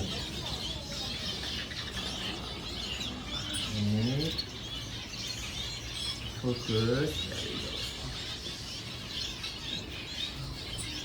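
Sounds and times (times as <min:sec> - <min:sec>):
finches chirping and twittering: 0:00.0 - 0:11.0.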